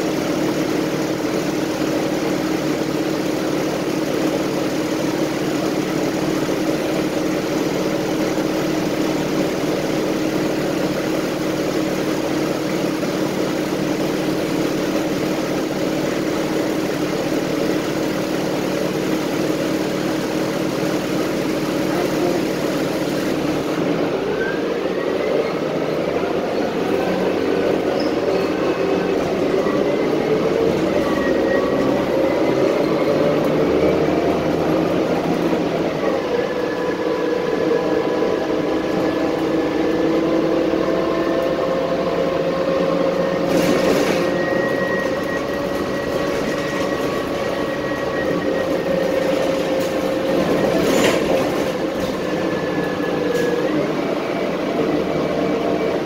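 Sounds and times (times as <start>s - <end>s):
bus engine humming: 0.0s - 56.0s.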